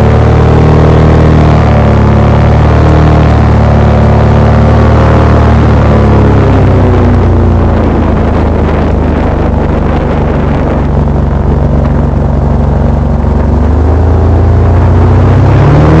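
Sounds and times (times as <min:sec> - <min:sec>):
airboat engine and propeller: 0:00.0 - 0:16.0.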